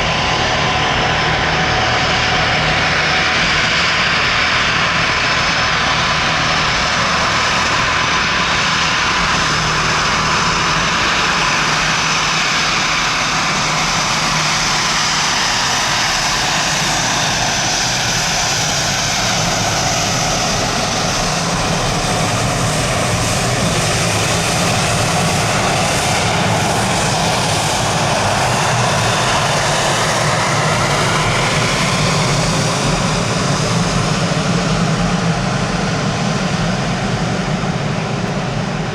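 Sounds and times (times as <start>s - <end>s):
airplane engine: 0.0s - 38.9s.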